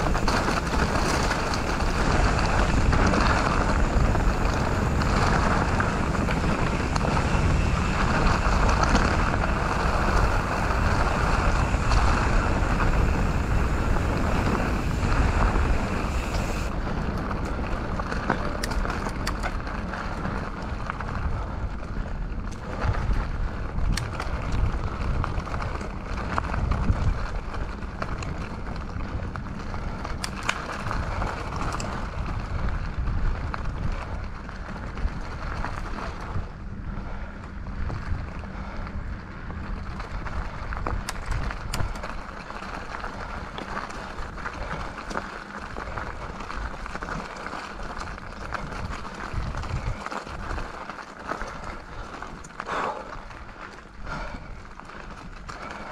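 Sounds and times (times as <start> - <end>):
bike clicks and rattles: 0.0 - 55.9
bike tyre noise on dirt: 0.0 - 55.9
wind rushing on microphone: 0.0 - 55.9.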